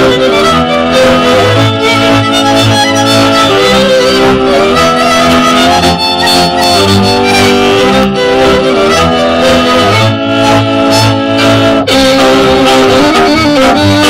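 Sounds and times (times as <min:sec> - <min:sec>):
string band folk dance music: 0:00.0 - 0:14.0.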